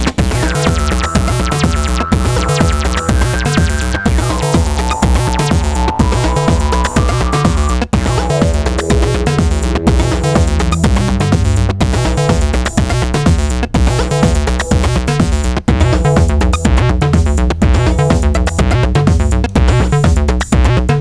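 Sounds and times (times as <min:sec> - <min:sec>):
acid synth line: 0:00.0 - 0:20.4
granular sample textures: 0:00.0 - 0:20.7
electronic drum pattern: 0:00.0 - 0:21.0
filtered bass notes: 0:00.0 - 0:21.0.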